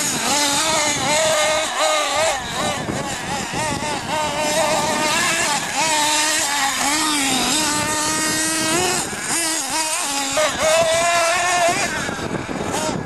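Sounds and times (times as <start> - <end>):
rc car engine revving: 0.0 - 13.0.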